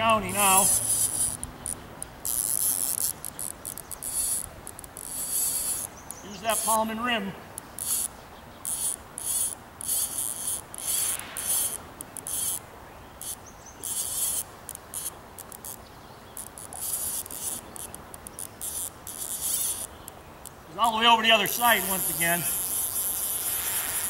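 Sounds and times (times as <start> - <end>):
fishing reel drag ratcheting: 0.0 - 6.8, 7.6 - 12.6, 13.2 - 15.8, 16.4 - 20.6, 21.4 - 24.0.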